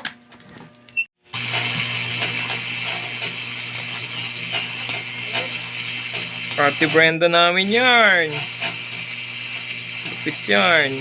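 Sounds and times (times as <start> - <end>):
arc welder crackling: 1.2 - 11.0.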